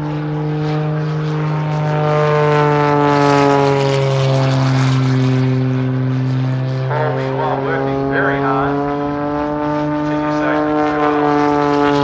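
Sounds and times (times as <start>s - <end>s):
plane engine running: 0.0s - 12.0s.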